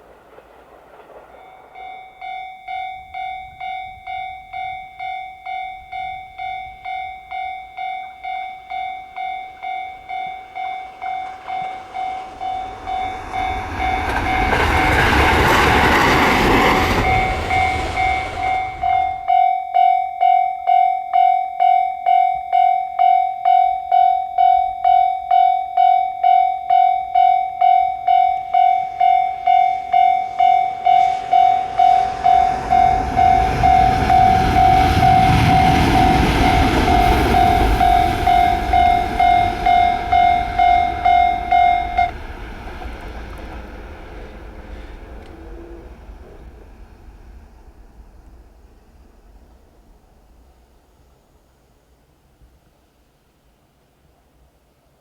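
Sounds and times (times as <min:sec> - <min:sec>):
level-crossing warning bell: 0:00.0 - 0:48.0
train rushing past: 0:00.0 - 0:53.0.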